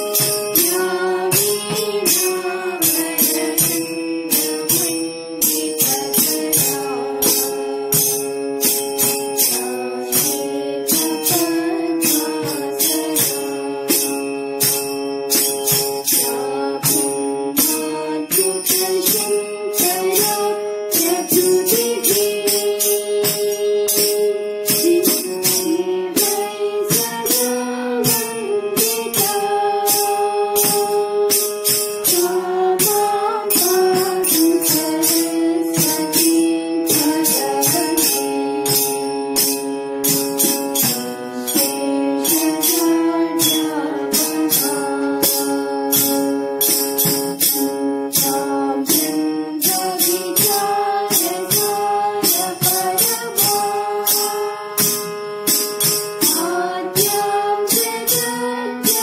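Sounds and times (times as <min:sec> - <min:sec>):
girl singing into microphone: 0:00.0 - 0:08.2, 0:16.0 - 0:46.8, 0:47.4 - 0:55.2, 0:55.8 - 0:59.0
electronic keyboard sustained notes: 0:00.0 - 0:59.0
jingling percussion beat: 0:00.0 - 0:59.0.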